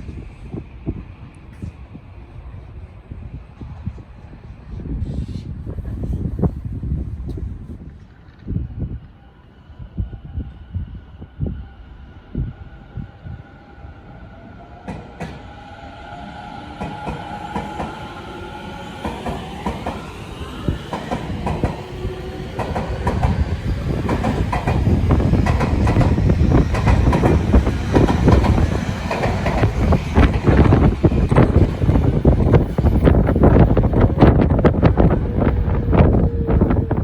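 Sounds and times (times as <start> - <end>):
electric train whine: 0.0 - 37.0
heavy train rumble: 0.0 - 37.0.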